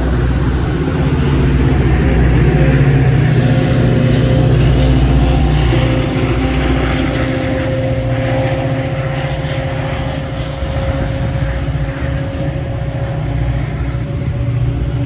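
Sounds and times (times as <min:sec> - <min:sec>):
constant whine: 0:00.0 - 0:15.0
diesel train engine rumble: 0:00.0 - 0:15.0.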